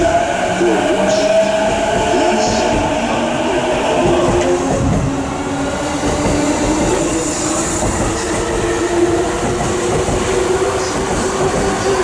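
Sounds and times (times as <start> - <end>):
electric train passing on rails: 0.0 - 12.0.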